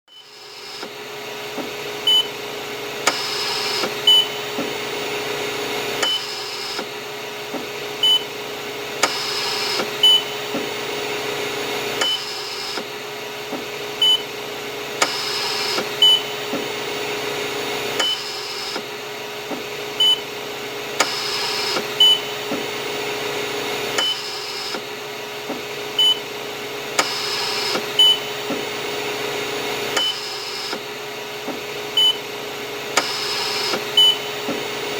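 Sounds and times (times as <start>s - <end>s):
machine hum: 0.1s - 34.9s.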